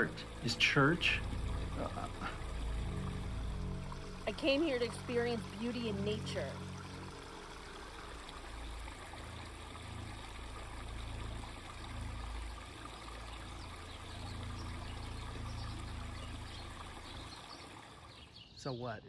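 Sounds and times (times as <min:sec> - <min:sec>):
low hum: 0:00.0 - 0:18.2
brook trickling over stones: 0:00.0 - 0:18.4.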